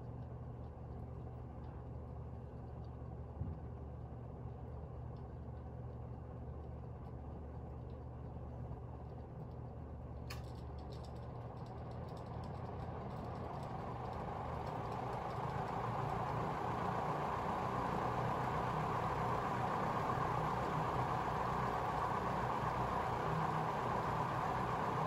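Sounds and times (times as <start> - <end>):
fan motor hum: 0.0 - 25.0.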